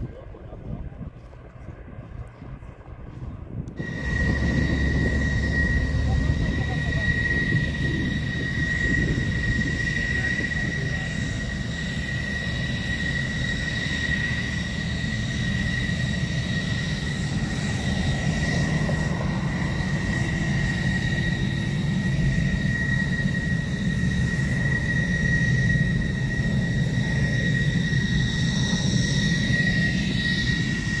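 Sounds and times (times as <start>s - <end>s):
propeller plane engines rumbling: 0.0s - 31.0s
high whine: 3.6s - 31.0s.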